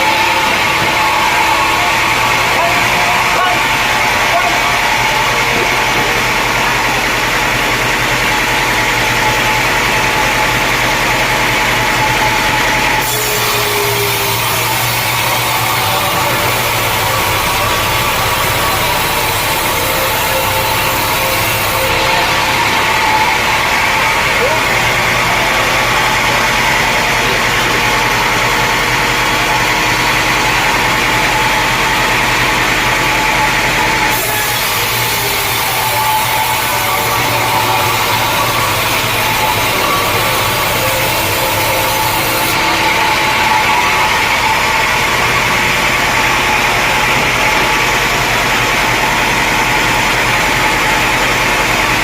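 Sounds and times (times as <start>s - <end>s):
mill engine running: 0.0s - 52.0s
saw blade cutting log: 0.0s - 52.0s
steady whine: 0.0s - 52.0s.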